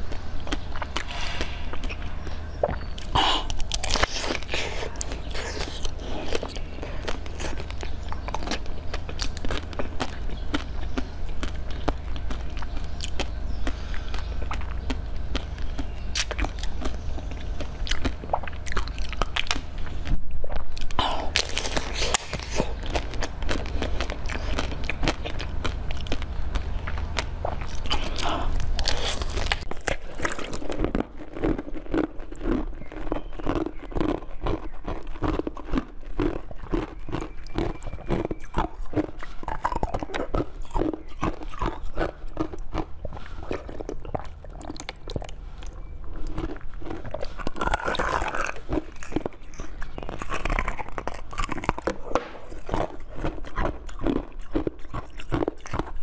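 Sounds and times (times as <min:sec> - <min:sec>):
jelly sweets chewed and crunched: 0:00.0 - 0:56.0.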